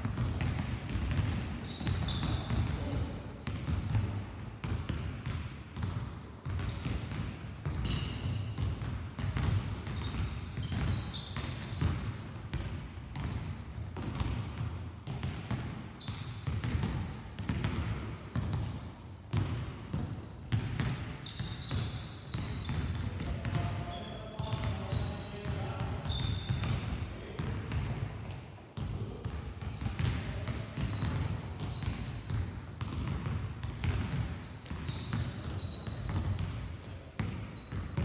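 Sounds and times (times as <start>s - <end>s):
basketballs bouncing on hard floor: 0.0s - 38.0s.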